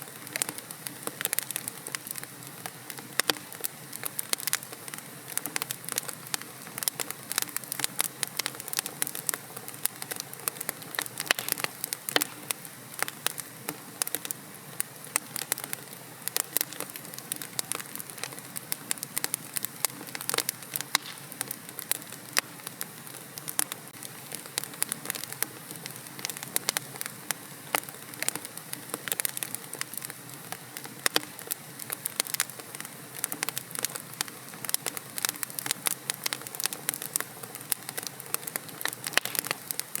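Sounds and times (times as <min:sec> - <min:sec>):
fire crackling and popping: 0:00.0 - 0:40.0
soft steady hiss: 0:00.0 - 0:40.0.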